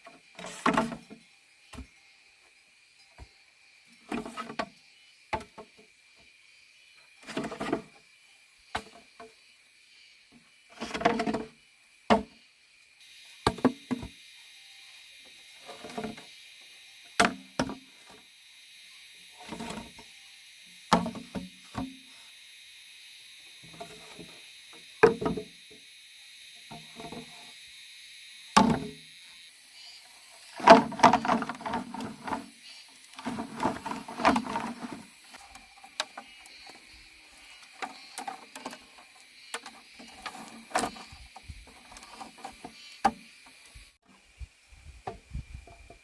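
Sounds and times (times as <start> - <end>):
steady high hiss: 0.0 - 46.0.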